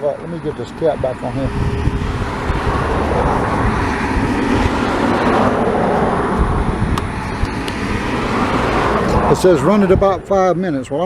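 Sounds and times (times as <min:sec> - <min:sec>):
low traffic rumble: 0:00.0 - 0:11.0
vehicle passing: 0:00.0 - 0:11.0.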